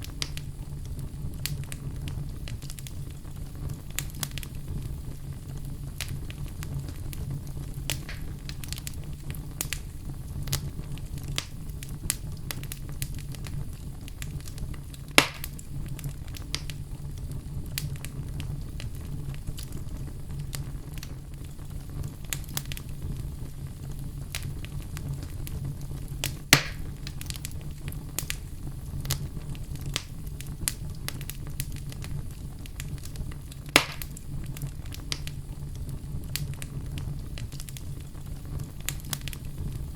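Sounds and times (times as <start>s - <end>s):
loud fire snaps: 0.0s - 39.9s
wood fire crackling: 0.0s - 39.9s.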